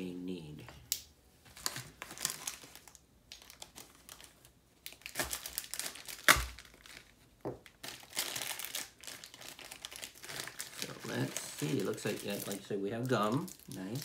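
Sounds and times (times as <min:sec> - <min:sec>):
plastic packet crinkling: 0:01.5 - 0:14.0.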